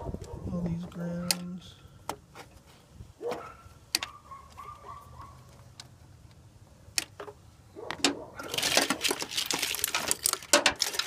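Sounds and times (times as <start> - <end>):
wires and connectors rustling: 0.0 - 11.0.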